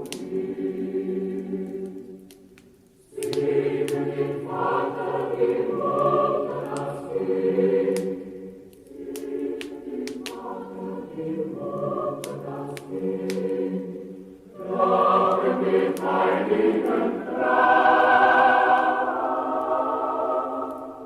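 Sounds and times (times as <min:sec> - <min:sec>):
choir singing in held chords: 0:00.0 - 0:02.5, 0:03.1 - 0:21.0
fireplace fire crackling: 0:00.0 - 0:21.0.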